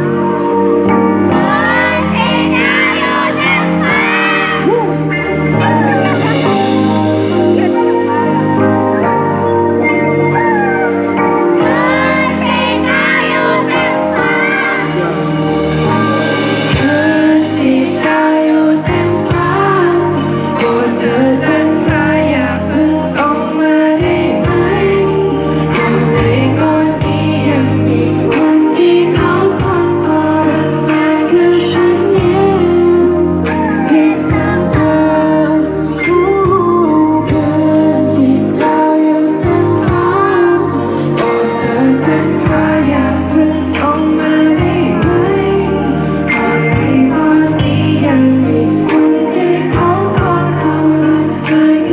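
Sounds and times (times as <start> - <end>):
song with instrumental backing: 0.0 - 51.9
steady bass line: 0.0 - 51.9.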